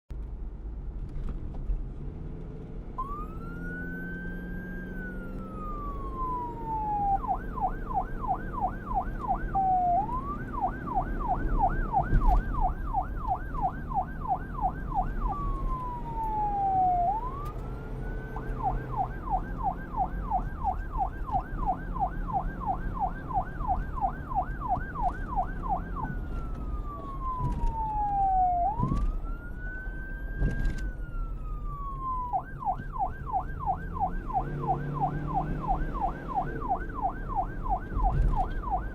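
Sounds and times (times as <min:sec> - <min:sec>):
police siren wail and yelp: 0:03.0 - 0:38.9.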